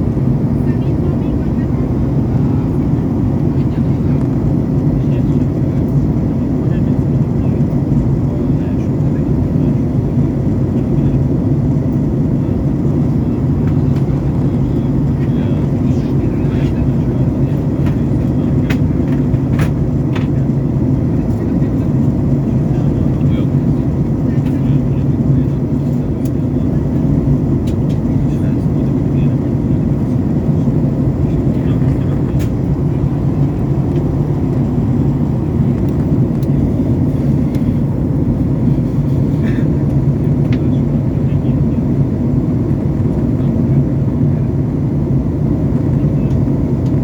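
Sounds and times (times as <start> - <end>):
airliner engine roar in cabin: 0.0 - 47.0.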